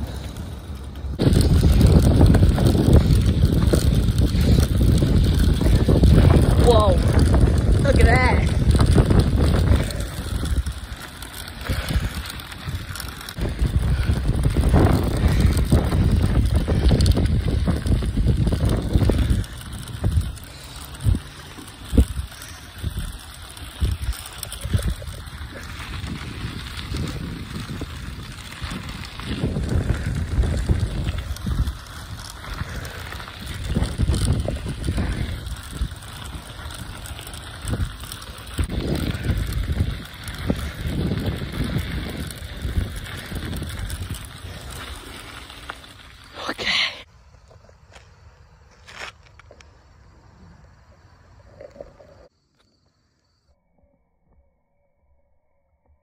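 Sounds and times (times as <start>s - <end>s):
wind buffeting microphone: 0.0s - 46.8s.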